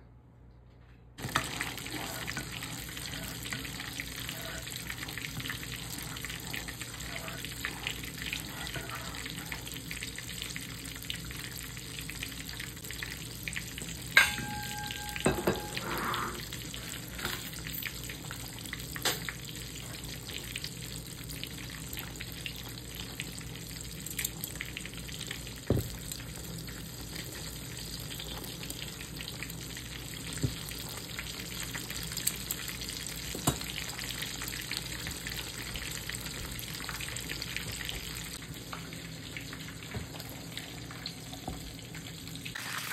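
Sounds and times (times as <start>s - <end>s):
chicken sizzling in hot oil: 1.2s - 42.9s.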